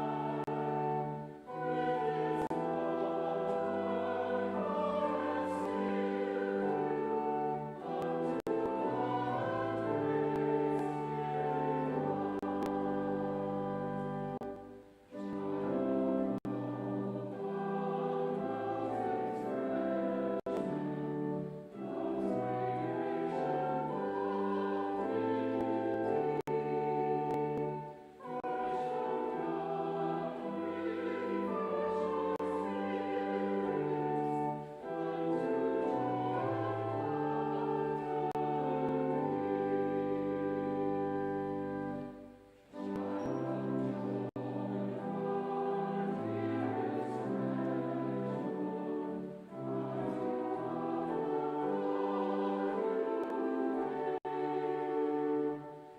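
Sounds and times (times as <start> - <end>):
voices singing a hymn: 0.0 - 55.9.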